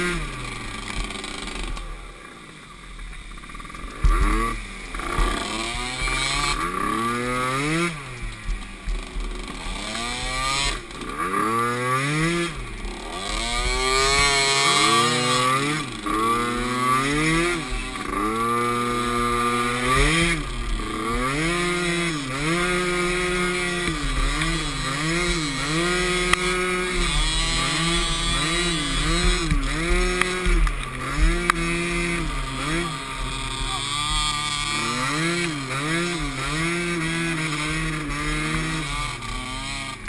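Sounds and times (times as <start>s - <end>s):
atv engines revving: 0.0s - 40.0s.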